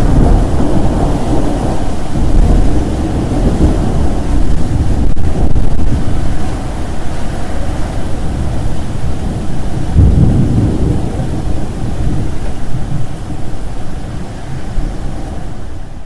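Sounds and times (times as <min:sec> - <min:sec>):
deep rolling rumble: 0:00.0 - 0:16.0
heavy rain hiss: 0:00.0 - 0:16.0.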